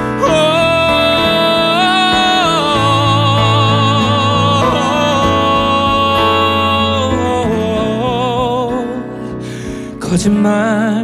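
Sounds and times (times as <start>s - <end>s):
instrumental accompaniment with bass: 0.0s - 11.0s
man singing with vibrato: 0.0s - 11.0s.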